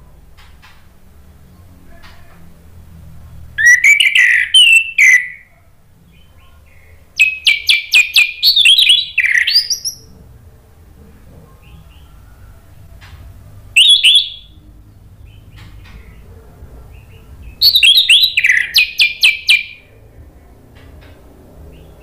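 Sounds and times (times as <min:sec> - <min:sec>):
thrush singing: 0:03.4 - 0:10.9, 0:11.6 - 0:22.0.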